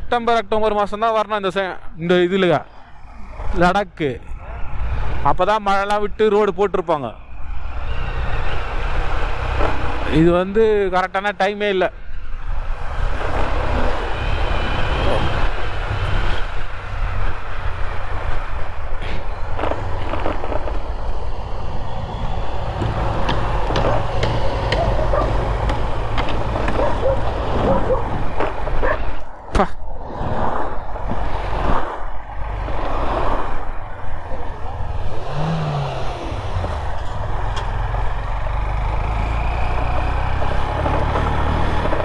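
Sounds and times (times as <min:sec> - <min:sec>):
wind and road noise: 0:00.0 - 0:42.0
passing truck traffic: 0:02.4 - 0:42.0.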